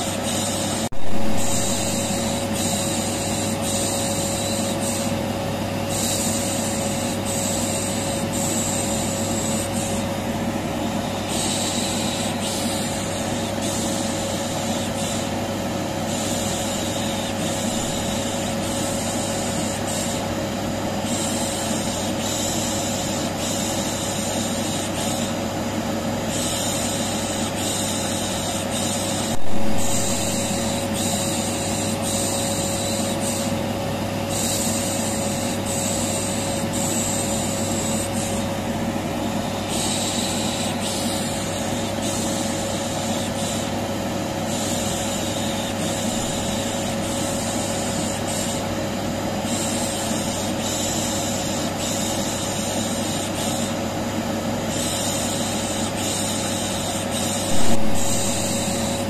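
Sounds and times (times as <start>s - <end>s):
vacuum cleaner running: 0.0s - 47.8s, 56.7s - 59.0s.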